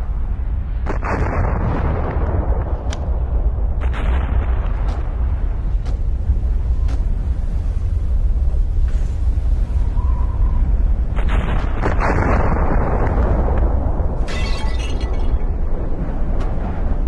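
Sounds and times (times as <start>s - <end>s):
volcanic eruption rumbling: 0.0s - 17.0s.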